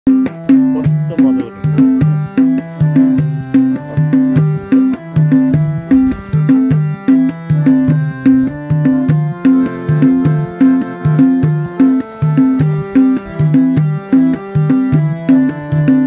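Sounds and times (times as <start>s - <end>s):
pitched drum beat: 0.1s - 16.0s.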